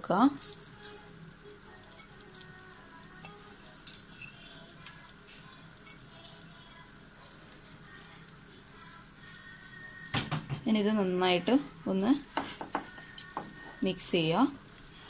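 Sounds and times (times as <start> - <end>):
water boiling and bubbling: 0.0 - 15.0.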